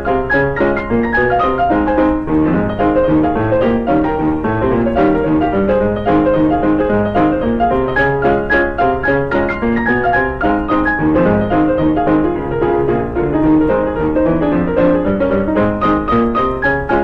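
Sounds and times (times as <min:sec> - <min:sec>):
lively piano music: 0:00.0 - 0:17.0.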